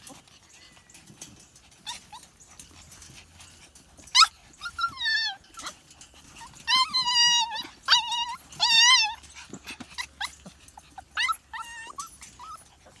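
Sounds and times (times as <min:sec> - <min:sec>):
puppies whining and yipping: 0:00.0 - 0:13.0.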